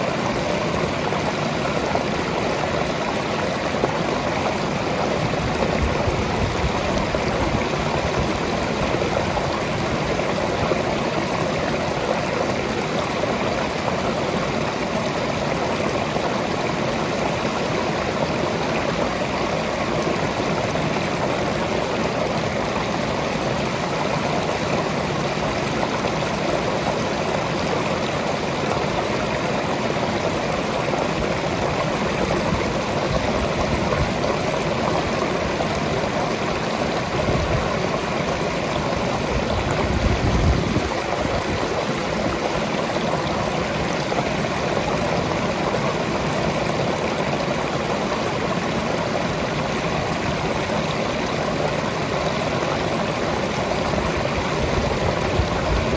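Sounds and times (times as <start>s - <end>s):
waterfall splashing into pool: 0.0s - 55.9s.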